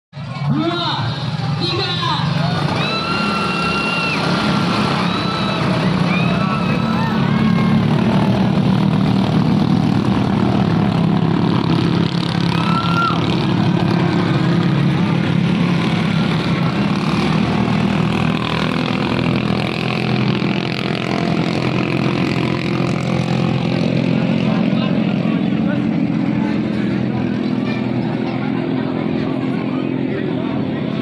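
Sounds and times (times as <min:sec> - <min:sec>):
boat engines at high revs: 0:02.2 - 0:31.0.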